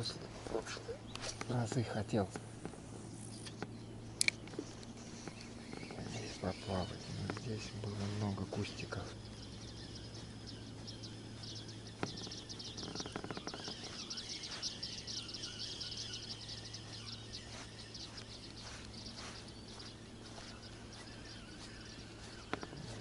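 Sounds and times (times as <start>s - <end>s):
steady low hum: 0.0s - 23.0s
high-pitched wildlife chirping: 3.1s - 23.0s.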